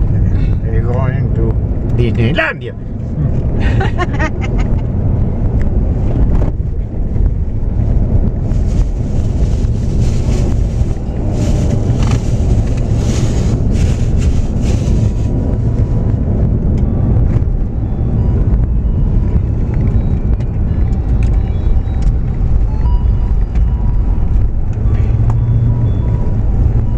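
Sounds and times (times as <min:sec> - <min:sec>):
car engine and tyres rumbling: 0:00.0 - 0:26.9.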